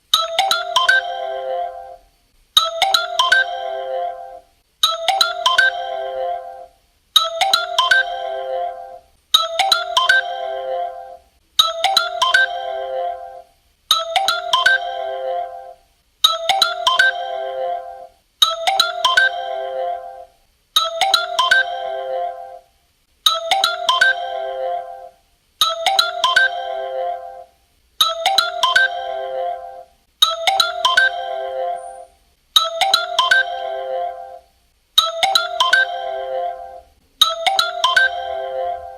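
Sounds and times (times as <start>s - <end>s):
melodic phone call tone: 0.2s - 2.0s, 2.6s - 22.7s, 23.3s - 34.4s, 35.0s - 38.9s.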